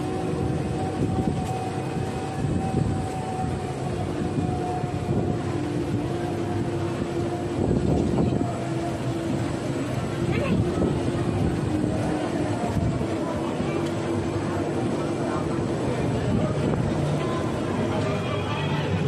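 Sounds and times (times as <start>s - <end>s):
constant whine: 0.0s - 19.0s
vehicle engine rumble: 0.0s - 19.0s.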